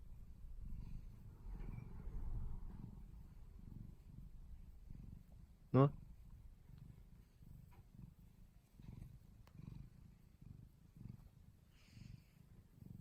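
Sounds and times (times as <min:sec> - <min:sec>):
cat purring faintly: 0:00.0 - 0:13.0.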